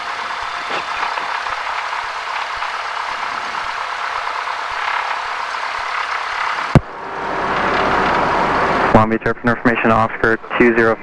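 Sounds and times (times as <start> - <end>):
piston aircraft engine droning: 0.0 - 11.0.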